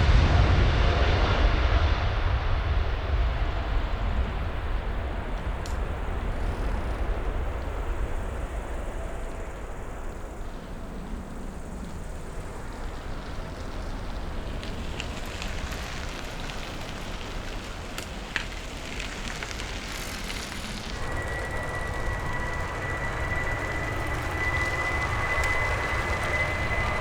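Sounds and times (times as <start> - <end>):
high engine whine: 0.0 - 27.0
jet engine rumble: 0.0 - 27.0.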